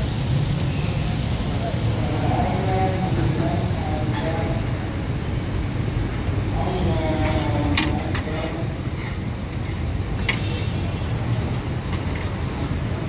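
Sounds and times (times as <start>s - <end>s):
low street traffic rumble: 0.0s - 13.0s.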